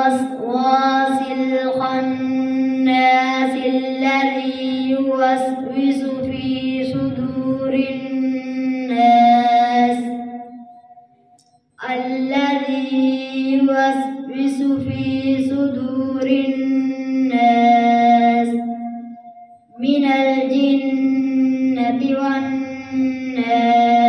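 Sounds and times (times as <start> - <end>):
boy reciting melodically: 0.0 - 11.0, 11.8 - 24.0.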